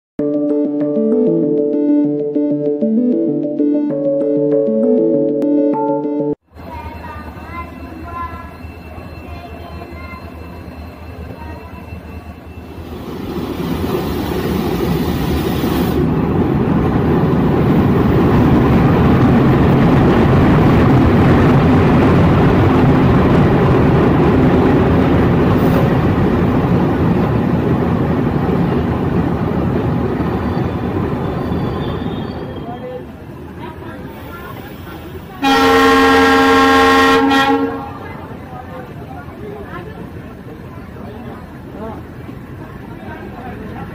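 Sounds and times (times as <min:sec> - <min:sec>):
diesel locomotive engine drone: 0:06.5 - 0:43.9
train wheels rumbling on rail: 0:06.6 - 0:43.9.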